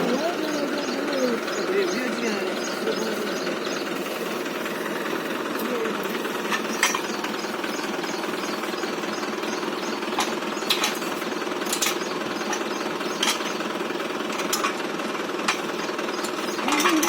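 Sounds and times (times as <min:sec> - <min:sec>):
diesel tractor engine pulsing: 0:00.0 - 0:17.0.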